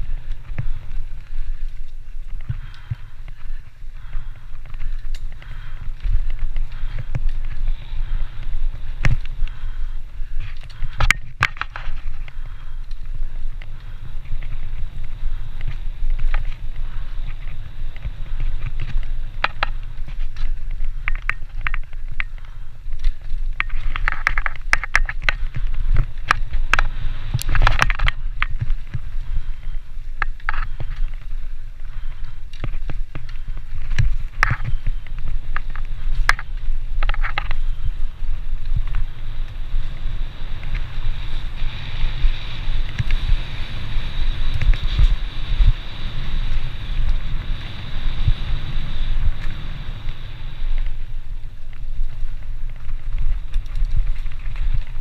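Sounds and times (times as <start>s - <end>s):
bike clattering and rattling: 0.0s - 55.0s
wind buffeting microphone: 0.0s - 55.0s.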